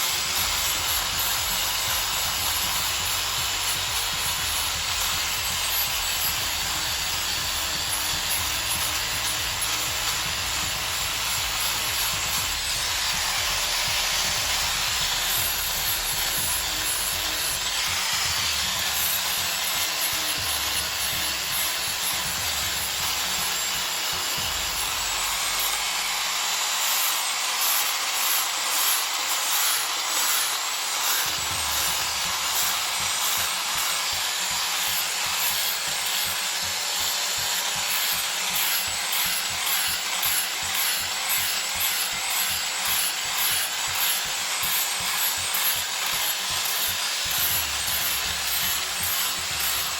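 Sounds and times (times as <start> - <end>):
power sander on wood: 0.0 - 49.9.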